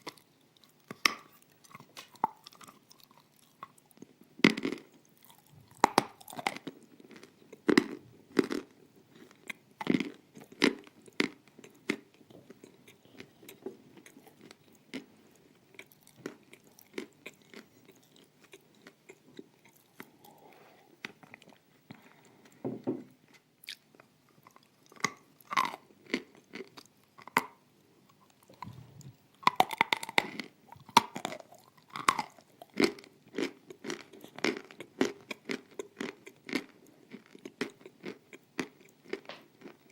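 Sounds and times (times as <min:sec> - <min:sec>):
quiet chewing: 0:00.0 - 0:22.6, 0:23.3 - 0:39.9.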